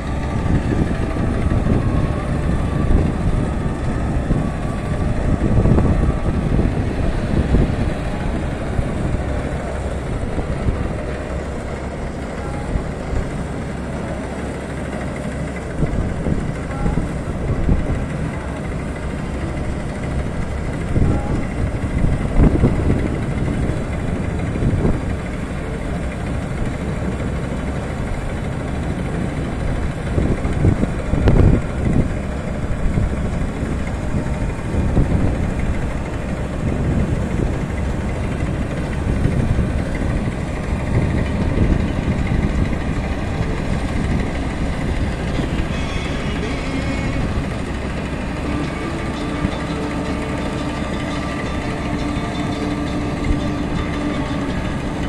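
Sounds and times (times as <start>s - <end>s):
distant combine harvester engine: 0.0s - 55.0s.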